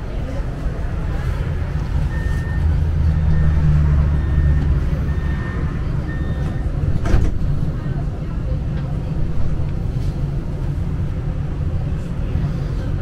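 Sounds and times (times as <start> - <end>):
tram rumble: 0.0 - 13.0.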